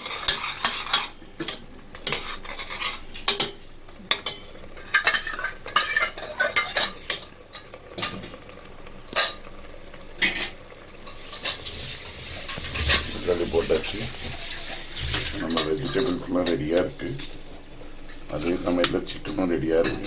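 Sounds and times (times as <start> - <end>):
spoon scraping a pan: 0.0 - 8.2, 10.2 - 20.0
faint sizzle: 0.0 - 20.0.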